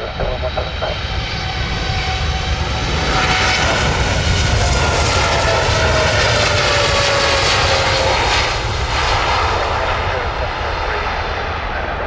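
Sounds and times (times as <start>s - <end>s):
jet engines roaring and whining: 0.0s - 12.0s.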